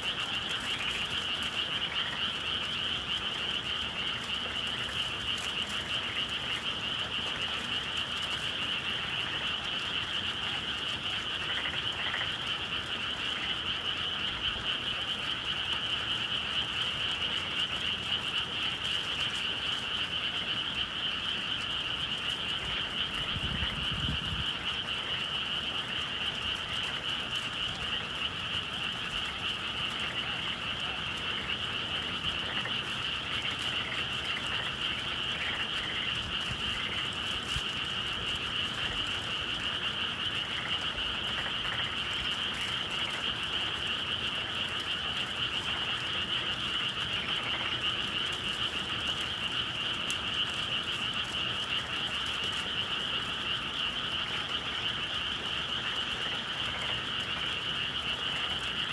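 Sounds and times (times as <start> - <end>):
chorus of frogs calling: 0.0 - 58.9.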